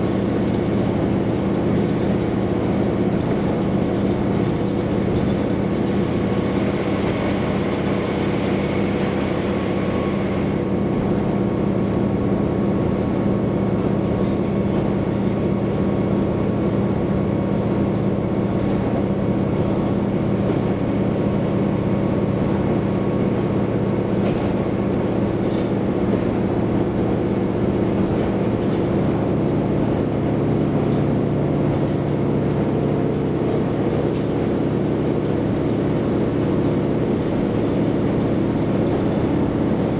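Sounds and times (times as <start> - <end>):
railcar engine drone: 0.0 - 39.9
wheel and track noise: 0.0 - 39.9.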